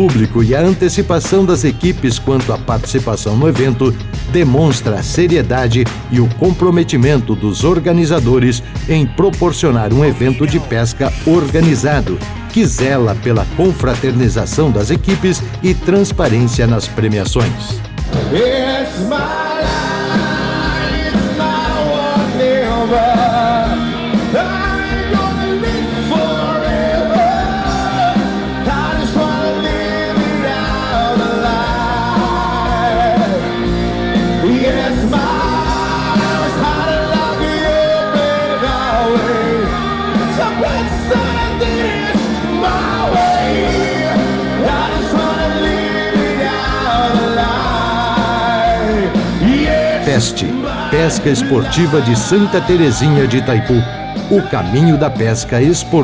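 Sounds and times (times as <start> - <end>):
person singing: 0.0 - 56.0
rock band playing: 0.0 - 56.0.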